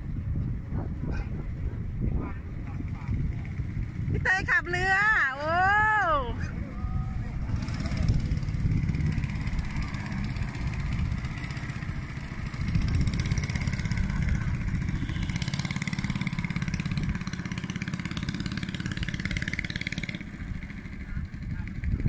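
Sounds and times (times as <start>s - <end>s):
boat engine droning: 1.4s - 22.0s.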